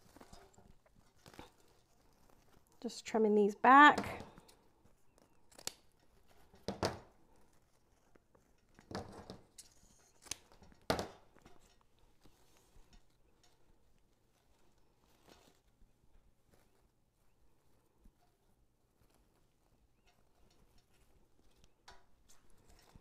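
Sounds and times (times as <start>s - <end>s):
faint ribbon handling: 0.0s - 23.0s.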